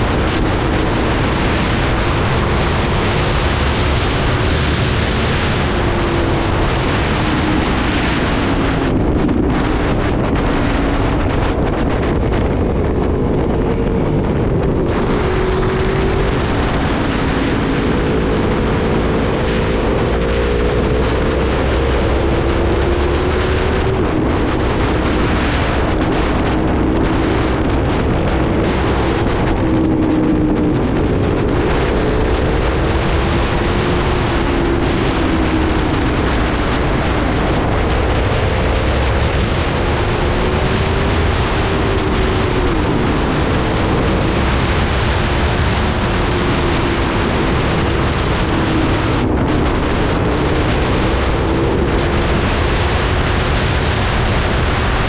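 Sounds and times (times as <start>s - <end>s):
motorcycle engine accelerating: 0.0s - 55.0s
wind noise on microphone: 0.0s - 55.0s.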